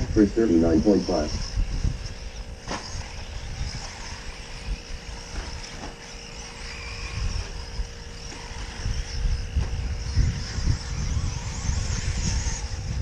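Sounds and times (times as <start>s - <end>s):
toy truck motors whining: 0.0s - 13.0s.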